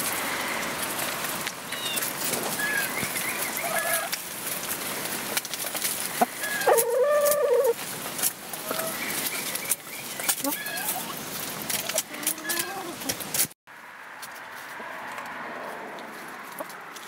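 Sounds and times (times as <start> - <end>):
pecking clicks and rustling leaves: 0.0 - 17.0.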